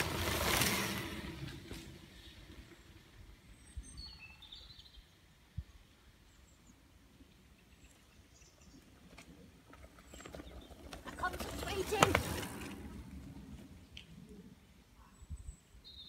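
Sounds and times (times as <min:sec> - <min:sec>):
faint woodland ambience: 0:00.0 - 0:16.0.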